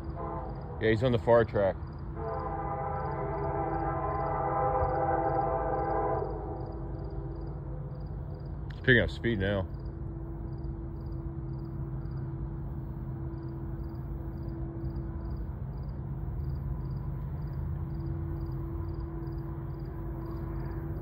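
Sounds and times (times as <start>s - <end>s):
diesel locomotive rumbling: 0.0s - 21.0s
insect chirping: 1.8s - 8.6s, 9.6s - 21.0s.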